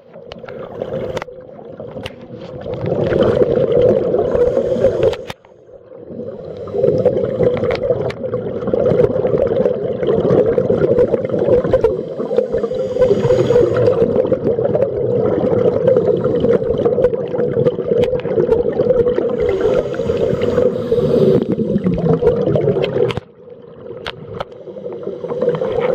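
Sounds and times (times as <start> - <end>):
underwater bubbles gurgling: 0.0 - 25.9.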